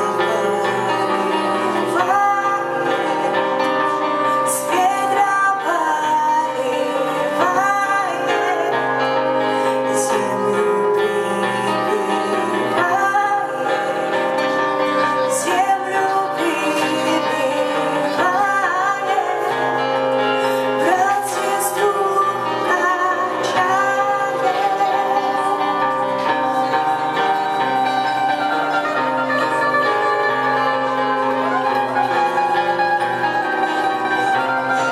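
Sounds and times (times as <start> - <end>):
live band playing: 0.0 - 34.9
woman singing: 0.0 - 34.9.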